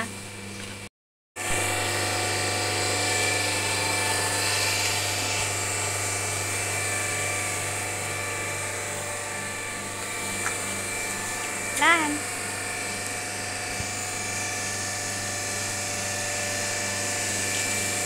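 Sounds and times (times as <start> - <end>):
motor droning: 1.4 - 18.0.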